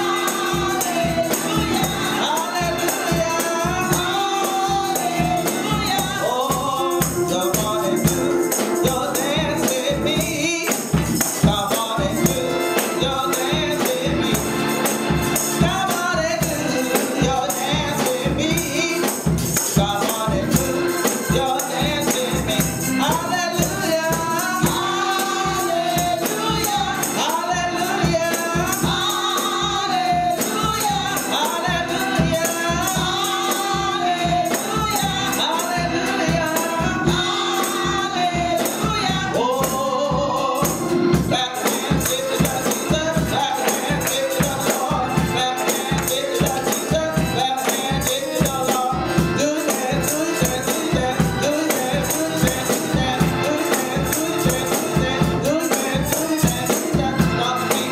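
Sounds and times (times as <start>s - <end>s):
choir singing gospel music: 0.0s - 57.9s
tambourine: 0.0s - 57.9s.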